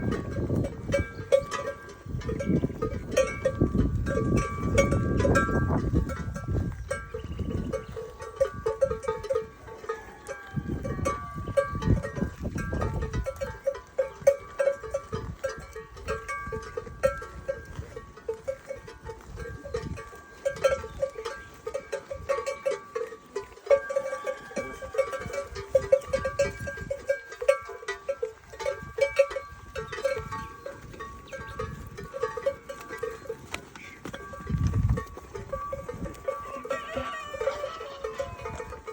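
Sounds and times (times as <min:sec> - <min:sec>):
metal animal bells clanking: 0:00.0 - 0:38.9.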